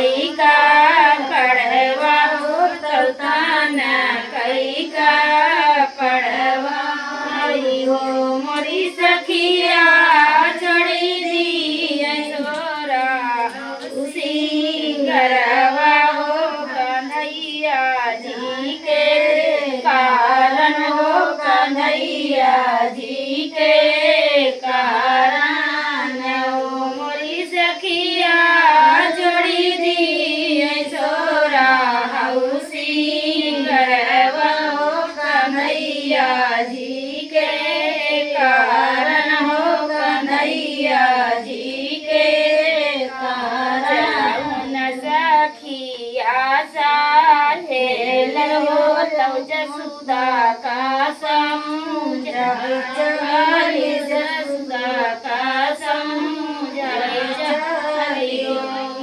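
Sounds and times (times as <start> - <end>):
women singing folk song: 0.0 - 59.0.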